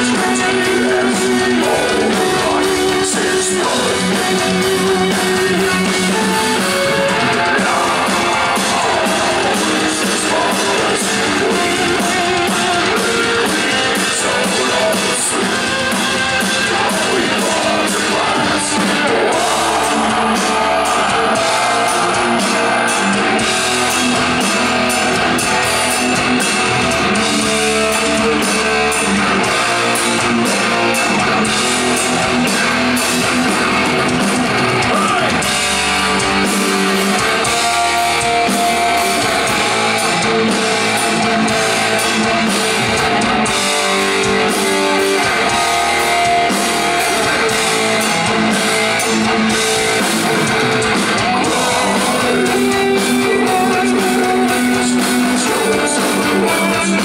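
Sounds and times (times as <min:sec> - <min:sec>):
live metal band playing: 0:00.0 - 0:57.0.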